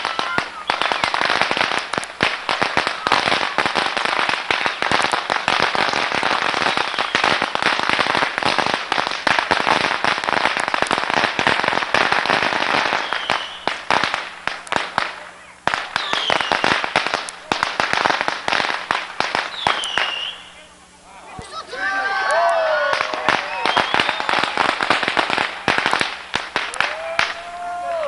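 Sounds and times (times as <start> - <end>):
firecrackers going off: 0.0 - 20.8, 21.4 - 28.0.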